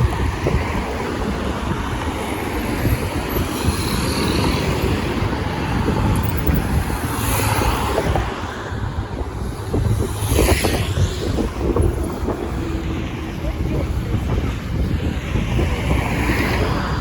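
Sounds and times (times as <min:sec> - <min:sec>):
road traffic: 0:00.0 - 0:17.0
wind buffeting microphone: 0:00.0 - 0:17.0.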